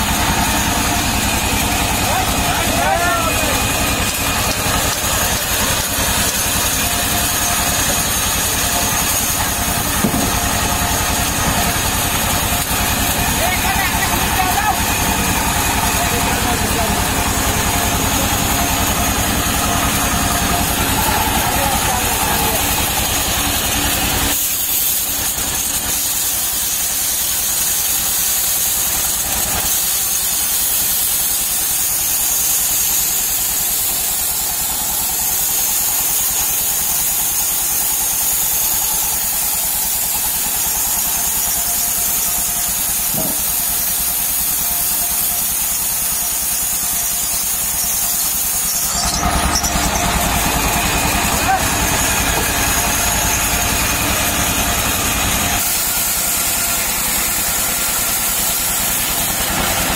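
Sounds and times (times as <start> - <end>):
machine running hum: 0.0 - 26.7, 33.2 - 59.9
band saw cutting log: 0.0 - 59.9.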